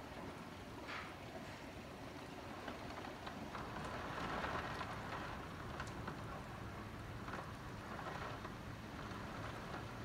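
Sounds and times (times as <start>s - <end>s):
steady rain hiss: 0.0s - 10.0s
raindrops ticking close by: 1.9s - 10.0s.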